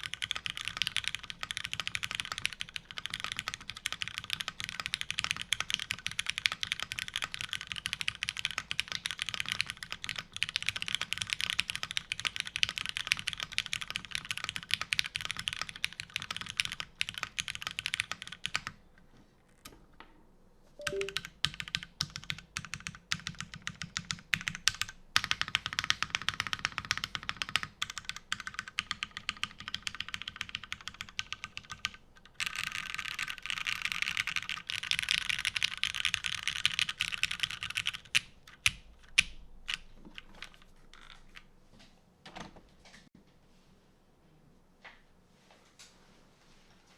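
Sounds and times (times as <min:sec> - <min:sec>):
mechanical keyboard typing: 0:00.0 - 0:18.8, 0:20.8 - 0:41.4.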